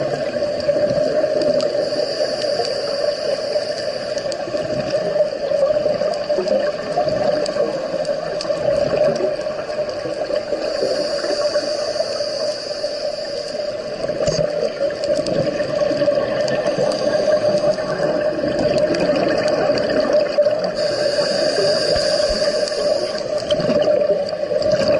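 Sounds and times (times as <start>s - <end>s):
underwater hiss and hum: 0.0s - 24.9s
faint clicks: 0.1s - 24.9s.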